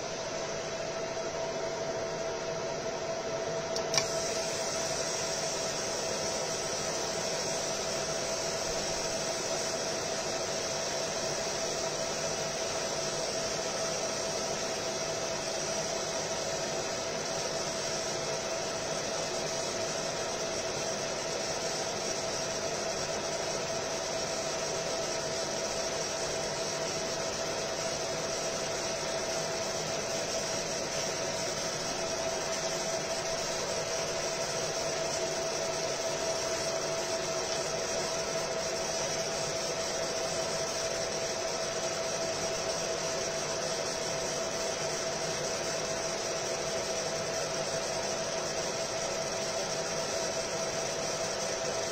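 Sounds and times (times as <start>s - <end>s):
laser marking machine hiss: 0.0s - 51.9s.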